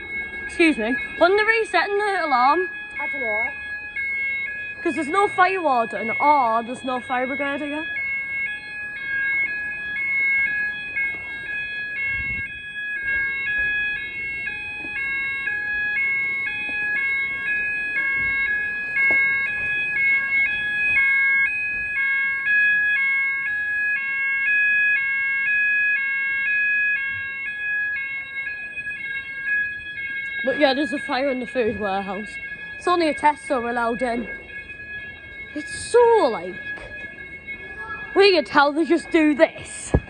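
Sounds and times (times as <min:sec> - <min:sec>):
fire alarm two-tone warble: 0:00.0 - 0:40.0
steady continuous alarm tone: 0:00.0 - 0:40.0.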